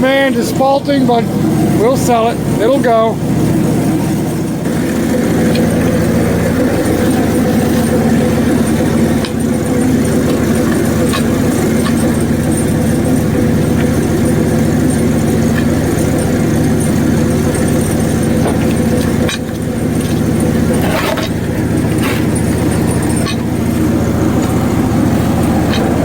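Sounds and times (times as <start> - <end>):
small gas engine running: 0.0 - 26.0.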